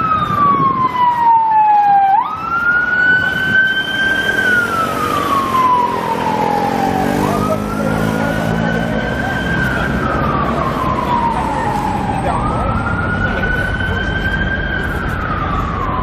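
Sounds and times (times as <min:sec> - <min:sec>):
police siren wailing: 0:00.0 - 0:16.0.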